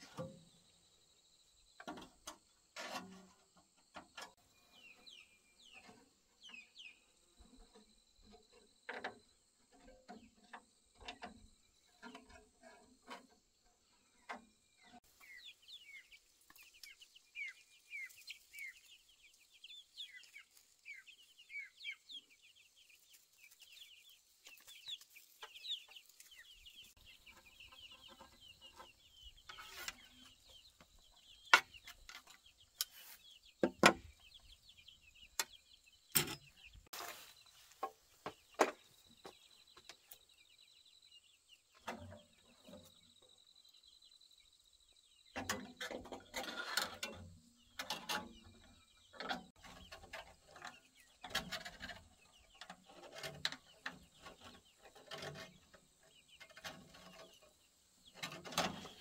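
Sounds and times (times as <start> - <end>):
chickens clucking: 1.6 - 40.4, 45.3 - 59.0.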